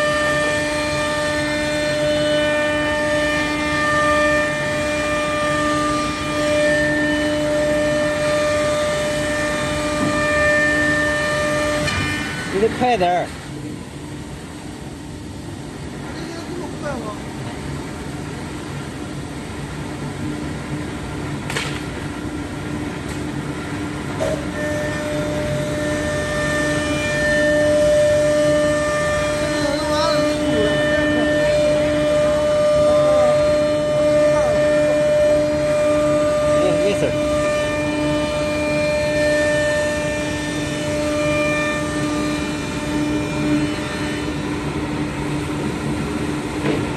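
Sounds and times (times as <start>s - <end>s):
cnc router humming: 0.0s - 46.9s
spindle high whine: 0.0s - 46.9s.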